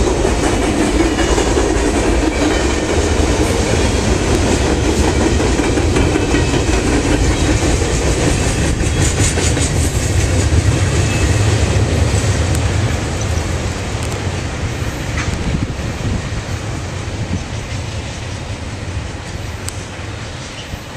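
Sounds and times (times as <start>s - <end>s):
steel wheels rumbling on rail: 0.0s - 20.9s.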